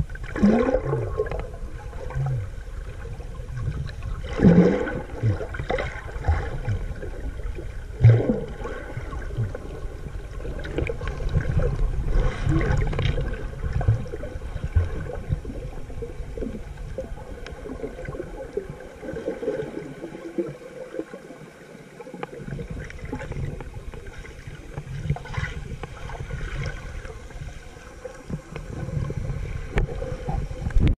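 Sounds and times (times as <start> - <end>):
low uneven rumble: 0.0 - 31.0
water moving underwater: 0.0 - 31.0.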